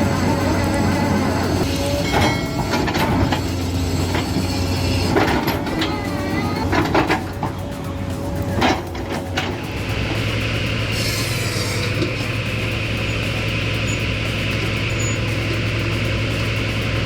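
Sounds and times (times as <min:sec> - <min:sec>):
heavy machinery humming: 0:00.0 - 0:17.0
machinery knocks and clacks: 0:00.0 - 0:17.0.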